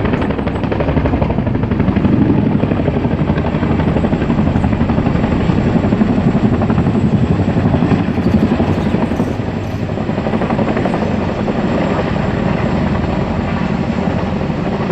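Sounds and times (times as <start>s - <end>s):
helicopter engines droning: 0.0s - 14.9s
helicopter rotor blades beating: 0.0s - 14.9s.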